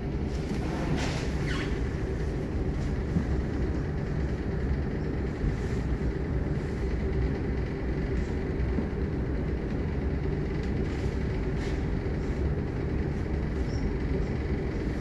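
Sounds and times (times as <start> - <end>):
tram wheels on rails: 0.0 - 15.0.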